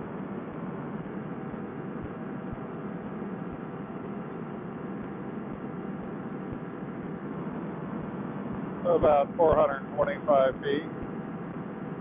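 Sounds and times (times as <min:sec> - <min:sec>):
paramotor engine droning: 0:00.0 - 0:12.0.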